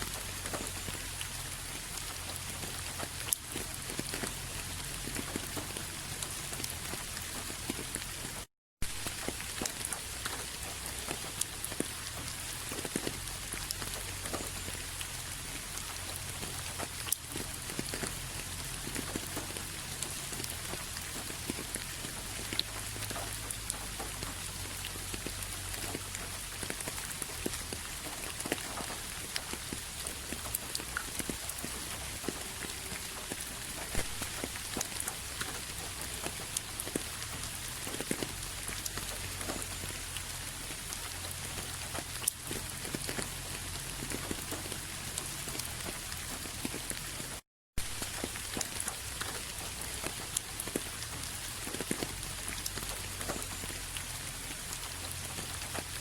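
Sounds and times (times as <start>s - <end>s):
raindrops ticking: 0.0s - 56.0s
steady rain hissing: 0.0s - 56.0s.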